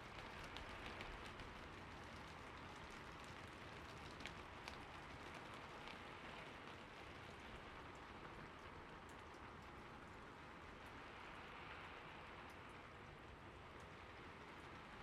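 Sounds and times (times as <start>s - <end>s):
small water drips: 0.0s - 15.0s.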